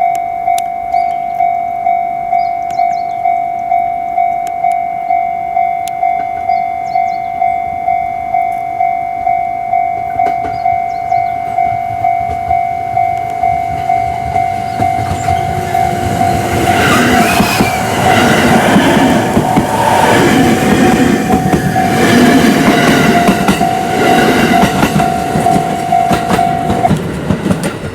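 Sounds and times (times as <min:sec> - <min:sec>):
electric train passing: 0:00.0 - 0:27.9
level crossing warning bell: 0:00.0 - 0:27.9.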